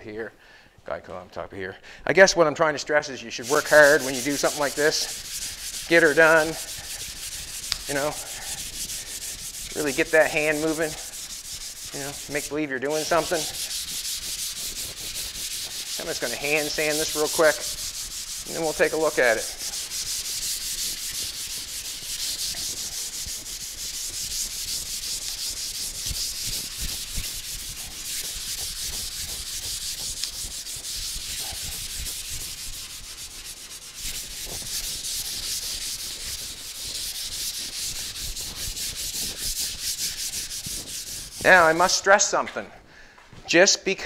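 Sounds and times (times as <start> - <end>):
sandpaper scraping back and forth: 3.1 - 42.6.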